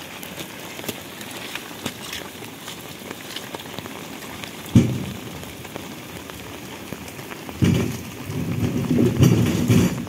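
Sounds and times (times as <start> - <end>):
light rain pattering: 0.0 - 10.0.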